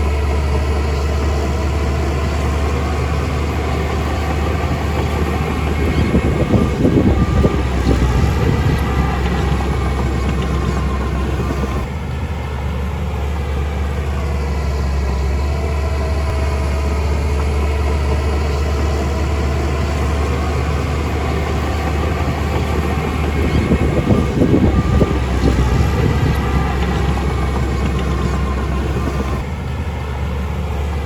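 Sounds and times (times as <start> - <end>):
heavy machine engine running: 0.0 - 31.0.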